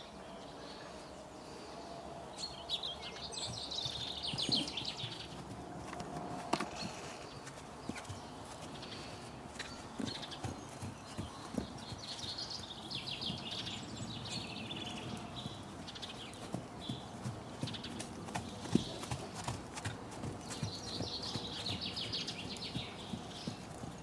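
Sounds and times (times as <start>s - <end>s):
horse hooves thudding on sand: 3.1s - 24.0s.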